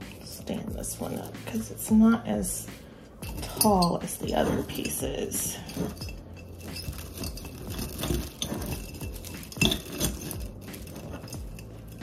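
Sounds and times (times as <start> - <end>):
stems rustling against a vase: 0.0 - 12.0.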